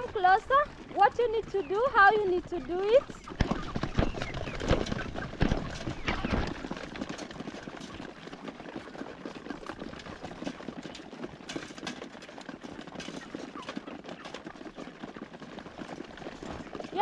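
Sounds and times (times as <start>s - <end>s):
chickens pecking and scuffling: 0.0s - 17.0s.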